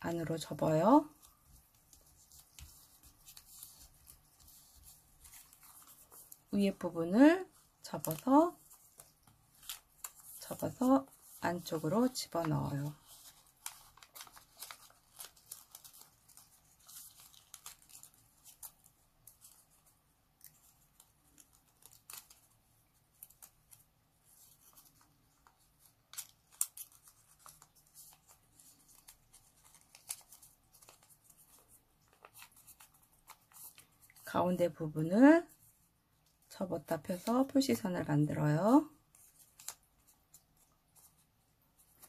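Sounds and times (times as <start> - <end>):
paper crinkling while folded: 0.0 - 42.0.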